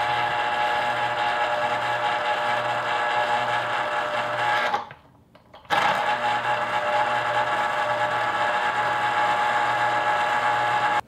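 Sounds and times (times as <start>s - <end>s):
juicer motor whirring: 0.0s - 5.0s, 5.7s - 11.0s.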